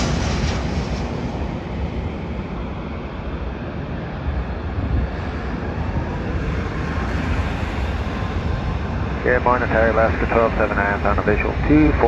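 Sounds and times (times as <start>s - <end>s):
jet engines rumbling: 0.0s - 12.0s
wind noise on microphone: 0.0s - 12.0s.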